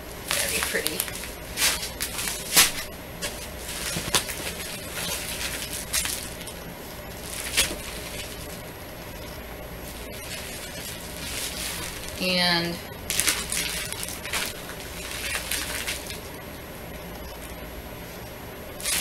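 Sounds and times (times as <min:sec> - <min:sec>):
plastic bags rustling and crinkling: 0:00.2 - 0:08.7, 0:09.8 - 0:16.4, 0:18.8 - 0:19.0.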